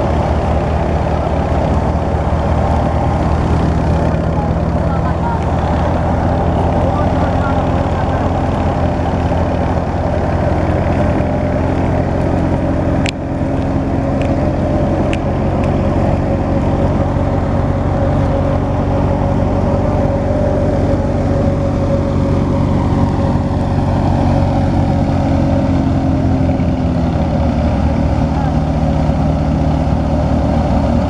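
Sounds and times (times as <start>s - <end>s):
thresher hum: 0.0s - 31.0s
tractor diesel engine running: 0.0s - 31.0s.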